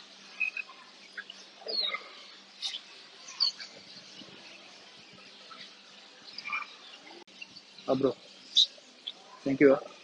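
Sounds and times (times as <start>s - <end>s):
small birds chirping: 0.2s - 10.0s.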